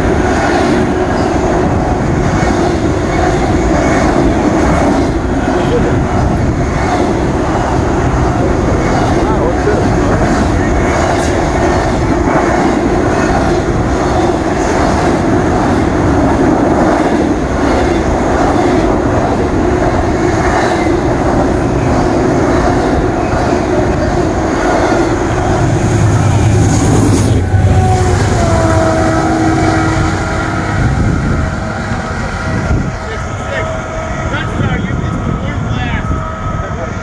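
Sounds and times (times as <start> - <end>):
freight train rumbling on rails: 0.0 - 37.0
locomotive deep hum: 0.0 - 37.0
steady whine: 0.0 - 37.0.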